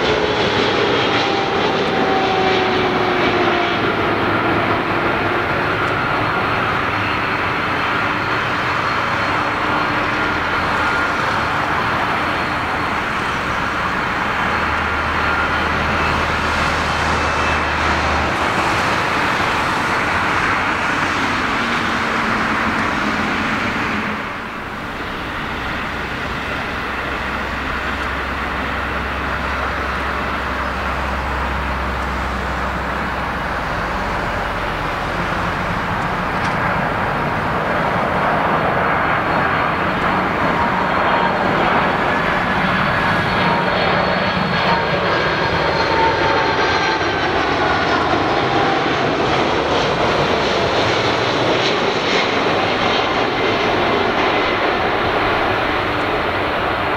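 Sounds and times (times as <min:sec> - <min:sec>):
jet engine whine gliding down: 0:00.0 - 0:56.9
jet engines roaring: 0:00.0 - 0:56.9.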